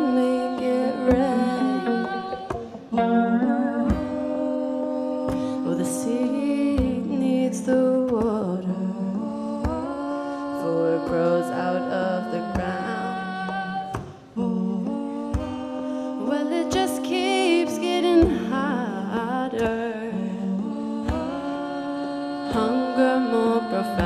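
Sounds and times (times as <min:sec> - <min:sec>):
electric and acoustic guitars: 0:00.0 - 0:24.0.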